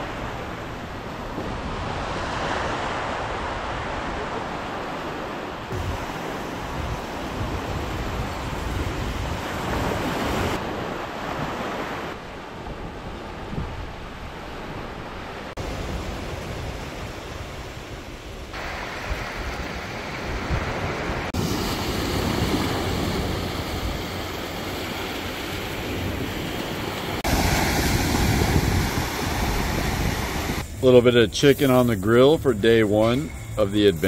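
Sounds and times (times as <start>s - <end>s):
wind on microphone: 0.0s - 30.8s
surf waves breaking: 0.0s - 34.0s.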